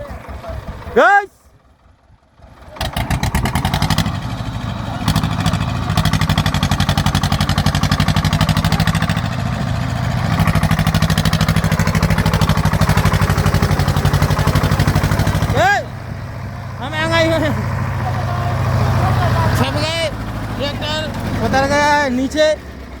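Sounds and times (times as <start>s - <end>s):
tractor diesel engine chugging: 0.0s - 23.0s.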